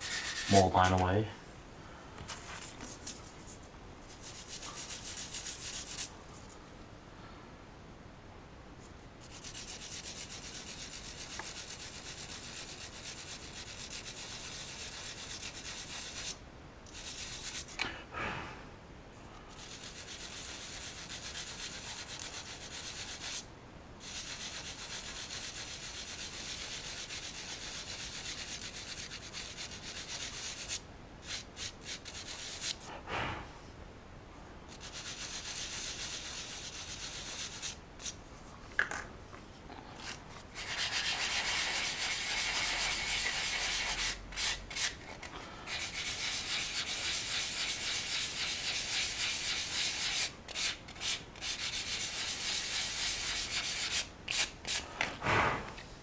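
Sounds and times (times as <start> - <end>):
hand sanding resin: 0.0 - 1.2, 2.4 - 6.1, 9.2 - 17.8, 19.5 - 32.9, 34.7 - 38.2, 40.0 - 54.9.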